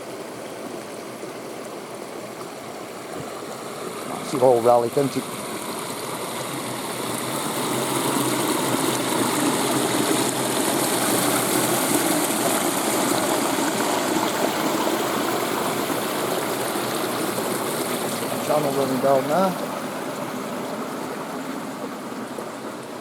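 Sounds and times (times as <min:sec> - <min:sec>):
stream water rushing over rocks: 0:00.0 - 0:23.0.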